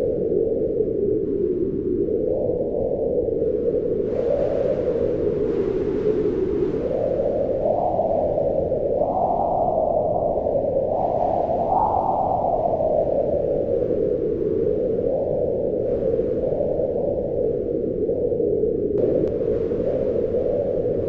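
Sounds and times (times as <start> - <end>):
howling wind gusts: 0.0 - 21.0.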